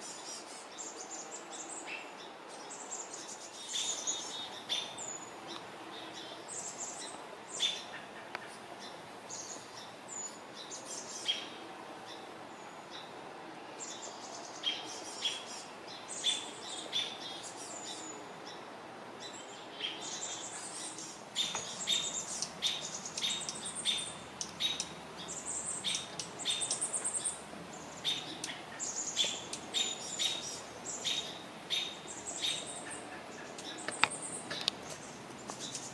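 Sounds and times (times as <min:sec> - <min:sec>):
faint steady hiss: 0:00.0 - 0:35.9
small birds chirping: 0:00.0 - 0:35.9.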